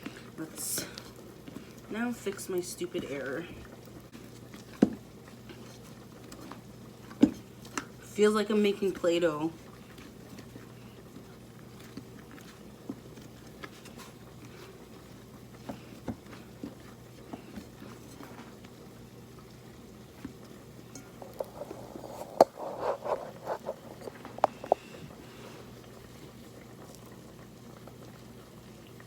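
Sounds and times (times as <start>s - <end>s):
dough squishing: 0.0s - 27.2s
faint steady hum: 0.0s - 29.0s.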